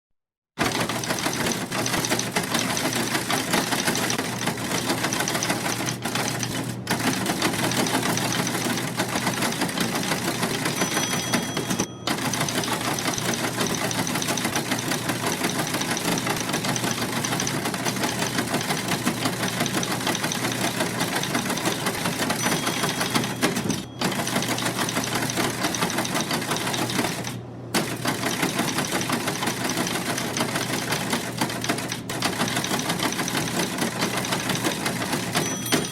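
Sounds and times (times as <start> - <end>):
teletype machine clattering: 0.6 - 35.9.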